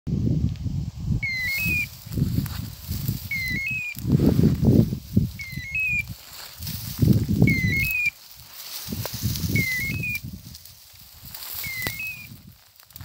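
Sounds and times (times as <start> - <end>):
dry grass rustling underfoot: 0.4 - 13.0.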